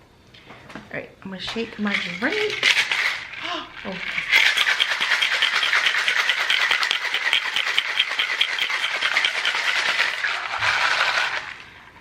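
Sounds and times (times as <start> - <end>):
ice rattling in cocktail shaker: 1.6 - 12.0.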